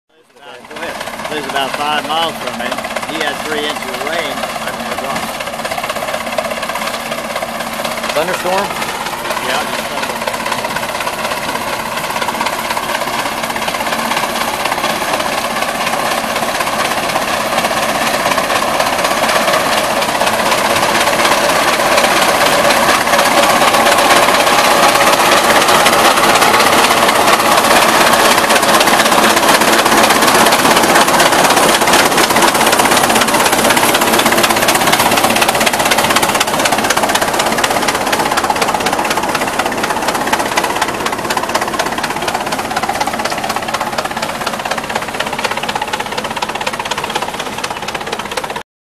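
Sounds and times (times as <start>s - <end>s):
tractor engine running under load: 0.1s - 48.6s.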